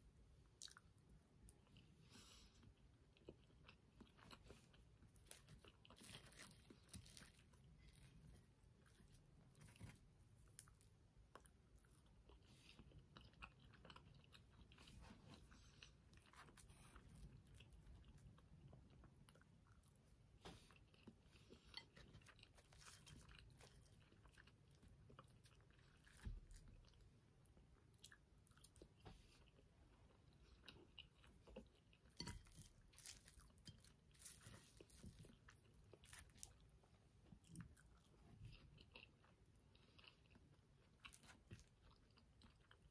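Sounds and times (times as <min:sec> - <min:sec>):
chewing: 0:02.6 - 0:42.9.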